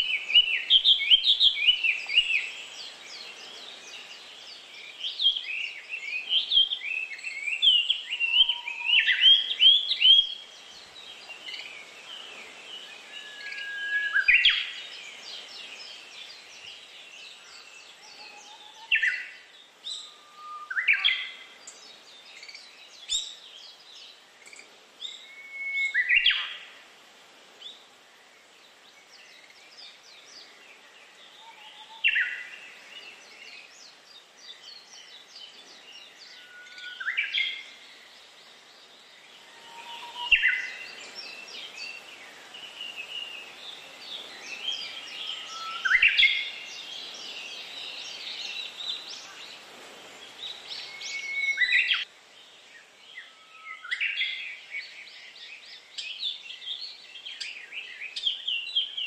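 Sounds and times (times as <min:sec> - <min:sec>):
faint background hiss: 0:00.0 - 0:59.0
songbirds twittering: 0:00.0 - 0:59.0.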